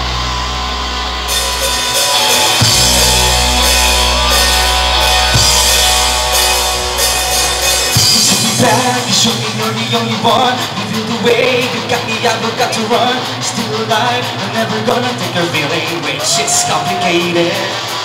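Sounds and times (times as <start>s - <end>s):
electric guitars: 0.0s - 18.0s
drum kit playing: 1.3s - 18.0s.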